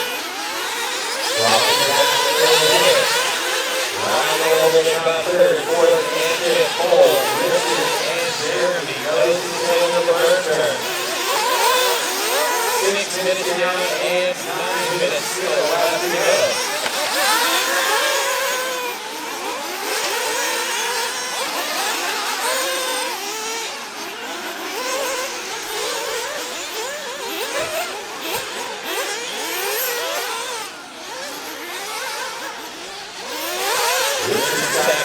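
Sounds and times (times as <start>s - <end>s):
model car engines whining and revving: 0.0s - 35.0s.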